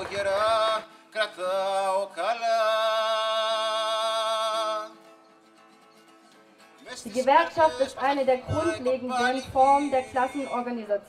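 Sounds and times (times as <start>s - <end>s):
man singing: 0.0s - 5.1s, 6.8s - 10.6s.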